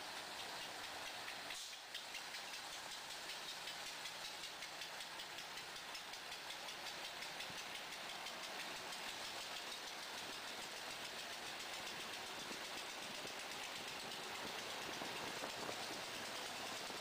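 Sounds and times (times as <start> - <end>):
train wheels hissing on rail: 0.0 - 17.0
fast even ticking: 0.2 - 17.0.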